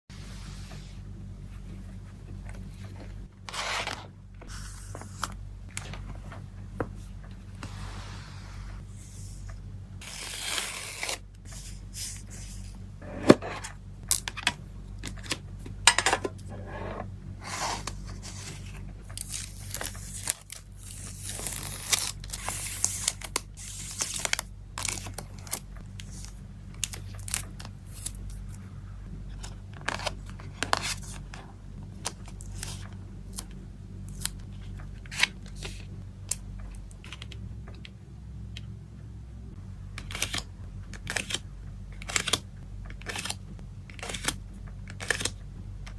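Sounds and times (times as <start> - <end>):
steady low hum: 0.1 - 45.9.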